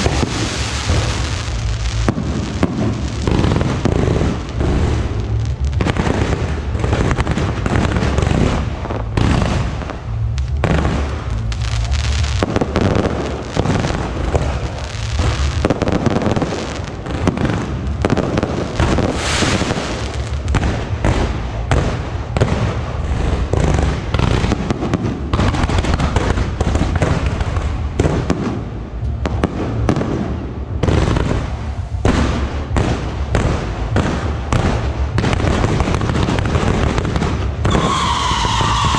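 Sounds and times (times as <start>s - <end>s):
fireworks launching and bursting: 0.0s - 38.9s.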